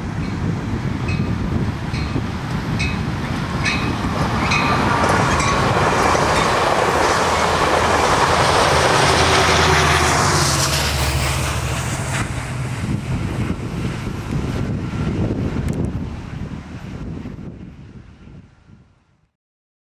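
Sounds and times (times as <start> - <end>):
train wheels rumbling on rails: 0.0 - 18.4
diesel engine drone: 1.5 - 17.6.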